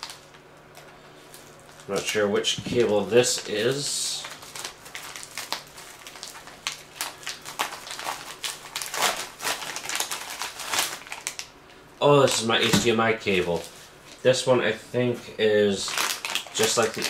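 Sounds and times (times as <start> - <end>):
plastic mailer crinkling: 0.0 - 14.2, 15.7 - 17.0.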